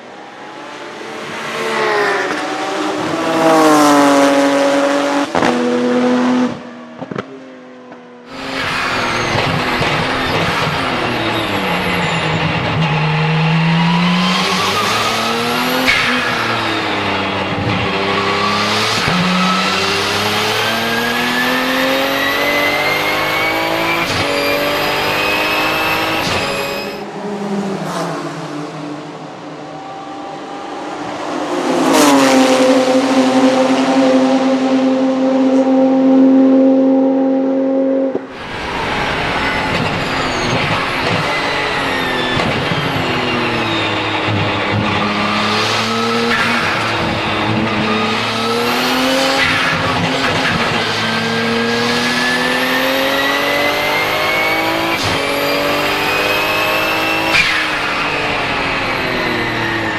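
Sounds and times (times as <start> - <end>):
racing car engine revving: 0.1 - 7.2, 8.0 - 59.9.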